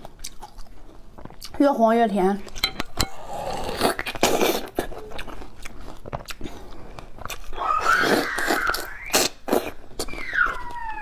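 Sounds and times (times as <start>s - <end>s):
crunchy fruit bites and chewing: 0.0s - 1.7s, 2.4s - 11.0s.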